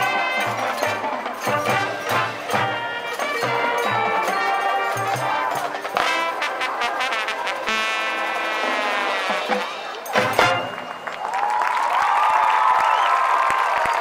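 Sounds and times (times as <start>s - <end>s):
marching band playing: 0.0s - 11.6s.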